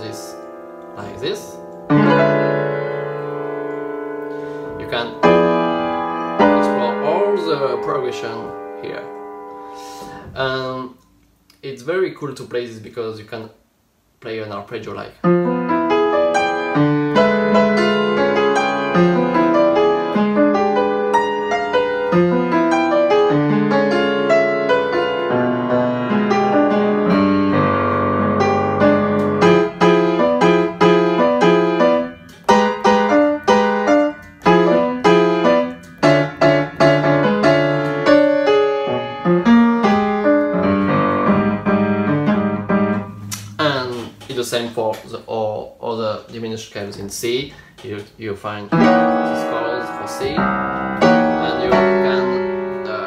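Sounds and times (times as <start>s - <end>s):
jazz piano chords: 0.0s - 11.1s, 15.2s - 44.9s, 48.5s - 53.0s.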